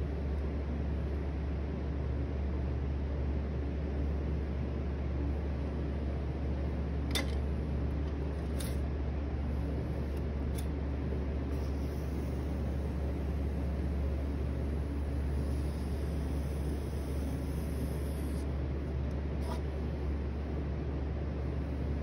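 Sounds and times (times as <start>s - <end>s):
pottery wheel humming: 0.0s - 22.0s.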